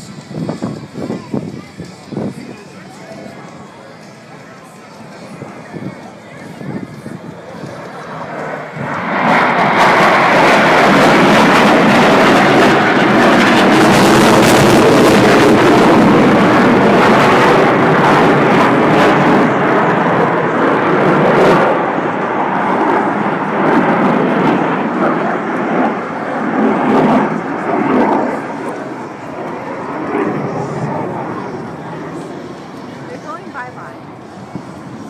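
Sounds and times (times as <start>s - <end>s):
jets flying past roaring: 0.0s - 35.0s.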